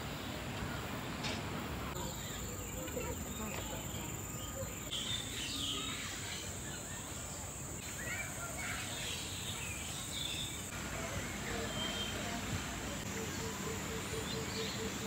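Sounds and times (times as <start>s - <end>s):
birds chirping: 0.0s - 15.0s
insects droning: 0.2s - 15.0s.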